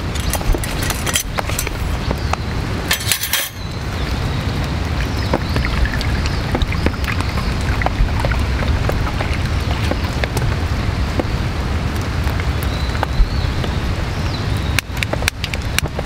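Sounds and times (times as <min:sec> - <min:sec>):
heavy rain falling: 0:00.0 - 0:03.0, 0:03.6 - 0:16.0
raindrops spattering: 0:00.0 - 0:16.0.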